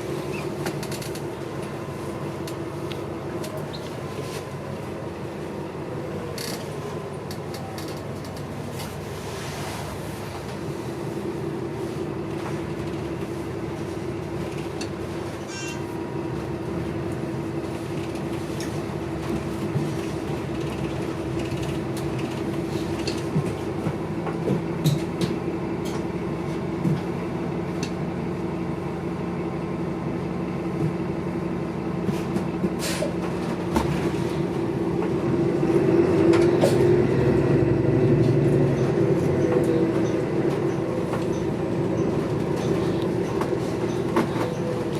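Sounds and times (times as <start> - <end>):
bus engine and road drone: 0.0 - 44.9.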